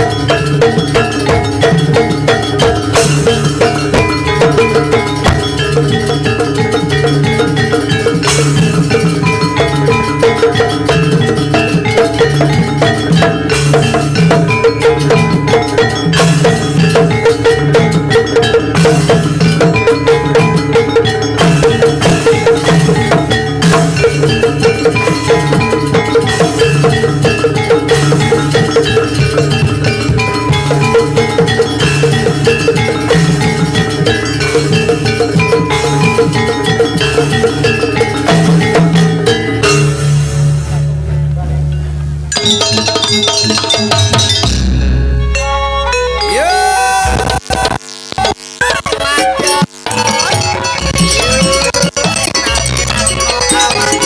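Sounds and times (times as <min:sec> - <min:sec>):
drumming: 0:00.0 - 0:41.1, 0:42.3 - 0:45.1, 0:46.3 - 0:54.0
metallophones and gongs struck: 0:00.0 - 0:47.4, 0:49.5 - 0:54.0.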